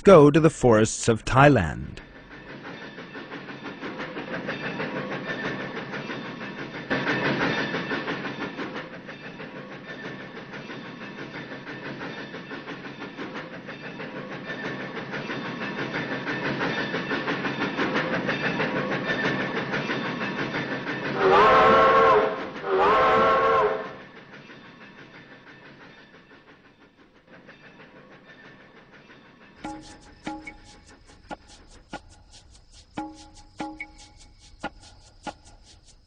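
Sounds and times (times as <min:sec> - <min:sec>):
train wheels clattering on rails: 0:02.0 - 0:36.0.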